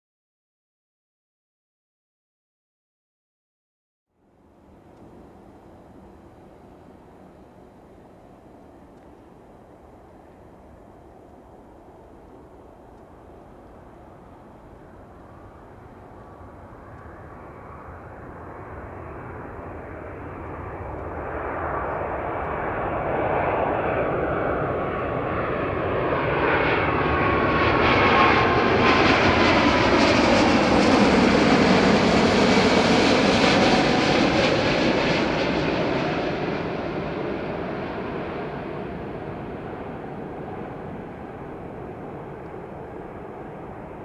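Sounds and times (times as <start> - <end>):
jet airliner passing overhead: 4.2 - 44.0.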